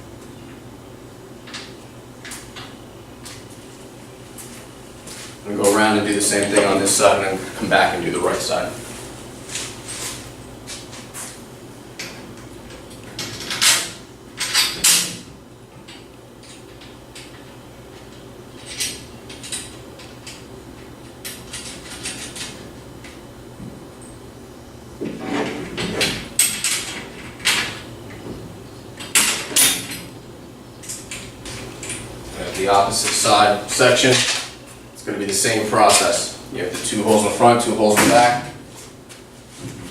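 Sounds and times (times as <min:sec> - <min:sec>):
low room hum: 0:00.0 - 0:39.9.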